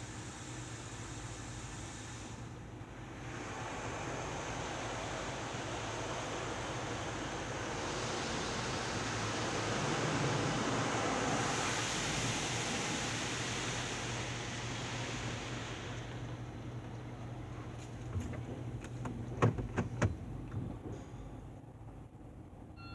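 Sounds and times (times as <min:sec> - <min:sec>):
car wash rushing: 0:00.0 - 0:21.0.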